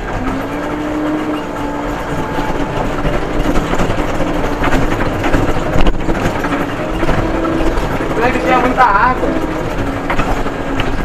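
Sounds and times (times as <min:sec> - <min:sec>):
constant whine: 0:00.0 - 0:11.0
diesel engine running: 0:00.0 - 0:11.0.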